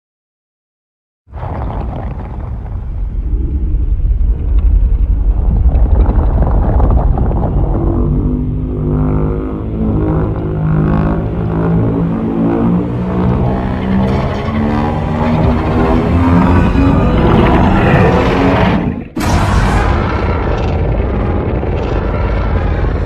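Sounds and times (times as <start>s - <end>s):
deep heavy rumble: 1.3s - 23.0s.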